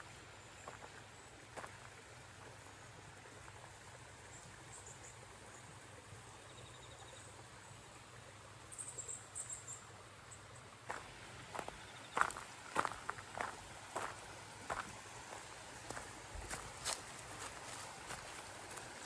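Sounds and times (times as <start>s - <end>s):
steady outdoor hush: 0.0s - 19.0s.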